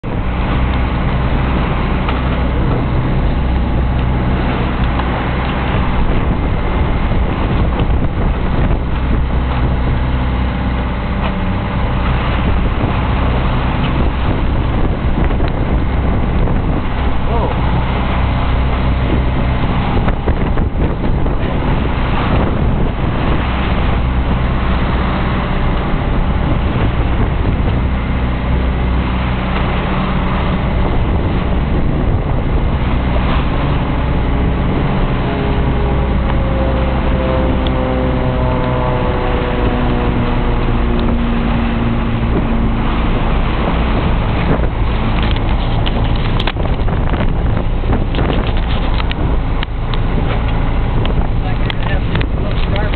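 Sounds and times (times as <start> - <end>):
boat engine running: 0.0 - 52.9
falling whine: 0.0 - 52.9
wind buffeting microphone: 0.0 - 52.9.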